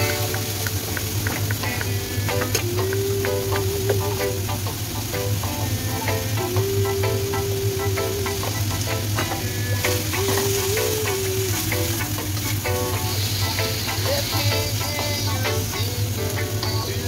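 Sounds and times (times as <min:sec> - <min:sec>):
background music: 0:00.0 - 0:17.0
food sizzling in hot oil: 0:00.0 - 0:17.0.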